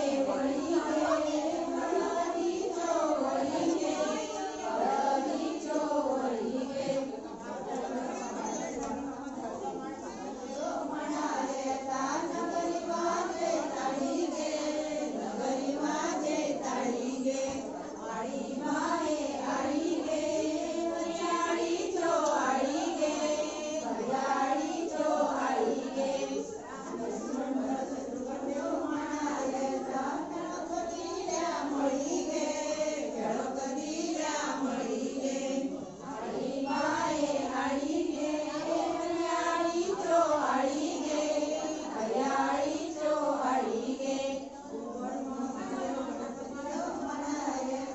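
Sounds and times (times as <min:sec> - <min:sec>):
women singing folk song: 0:00.0 - 0:08.7, 0:10.4 - 0:47.9.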